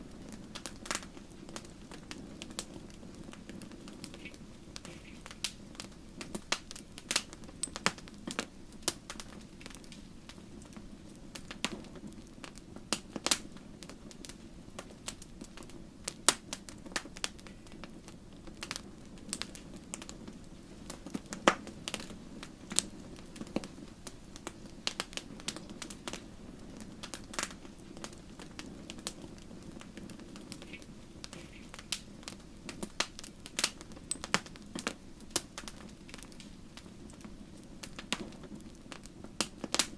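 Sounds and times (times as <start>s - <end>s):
logs crackling and popping: 0.0s - 39.9s
low hum of flames: 0.0s - 39.9s.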